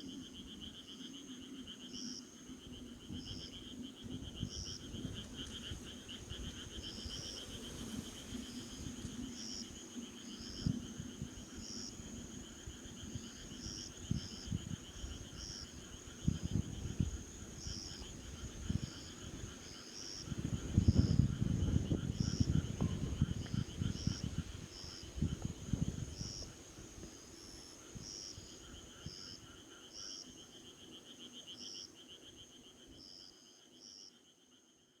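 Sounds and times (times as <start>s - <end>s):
insects trilling: 0.0s - 34.7s
lower pulsing insect trill: 0.0s - 35.0s.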